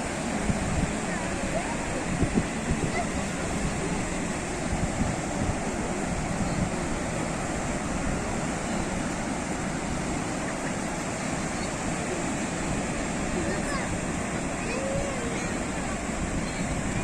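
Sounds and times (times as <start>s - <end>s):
waves washing onto shore: 0.0s - 17.0s.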